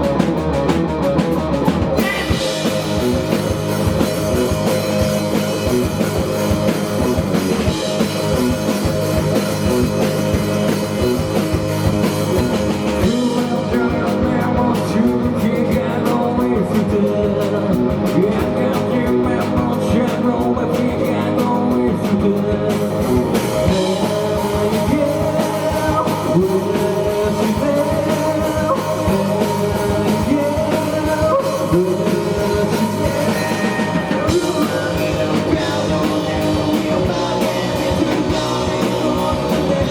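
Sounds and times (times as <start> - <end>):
bass guitar: 0.0 - 39.9
drums: 0.0 - 39.9
electric guitar: 0.0 - 39.9
person singing: 1.9 - 8.6, 12.0 - 39.9.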